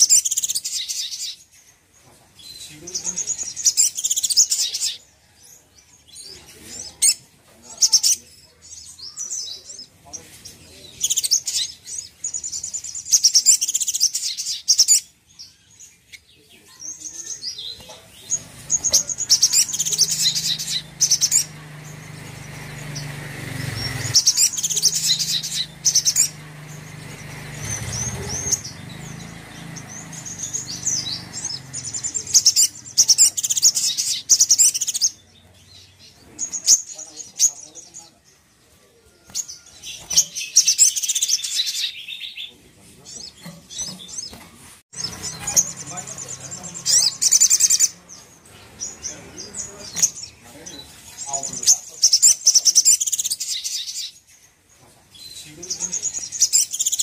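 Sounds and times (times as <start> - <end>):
bird chirping and trilling: 0.0 - 57.0.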